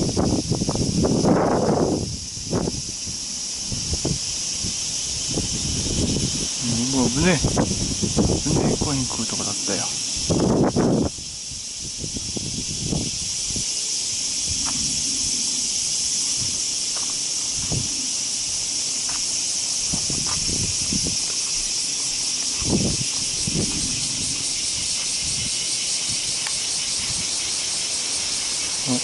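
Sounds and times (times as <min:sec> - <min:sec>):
cicadas buzzing: 0:00.0 - 0:29.0.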